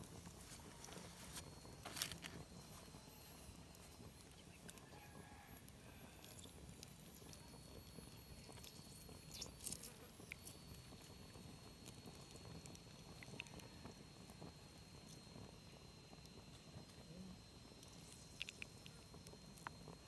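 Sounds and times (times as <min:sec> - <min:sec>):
thin steady high tone: 0:00.0 - 0:20.0.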